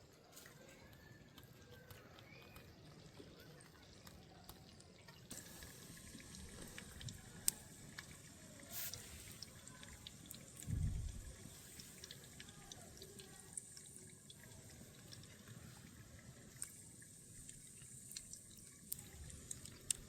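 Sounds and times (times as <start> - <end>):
faint water trickling and dripping: 0.0 - 20.0.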